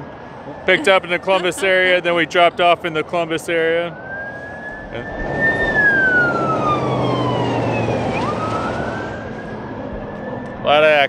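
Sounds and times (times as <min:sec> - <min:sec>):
passing traffic rushing: 0:00.0 - 0:11.0
police siren wailing: 0:00.3 - 0:11.0.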